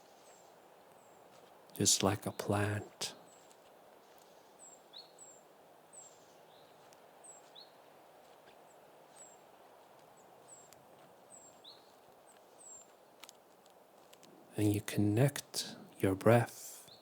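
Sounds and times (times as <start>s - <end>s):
outdoor ambience hiss: 0.0s - 17.0s
small birds chirping: 0.0s - 17.0s.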